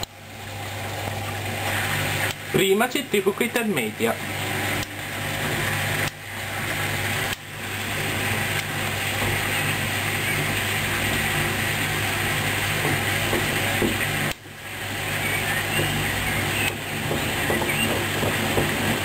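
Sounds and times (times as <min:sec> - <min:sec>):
washing machine drum spinning: 0:00.0 - 0:19.0.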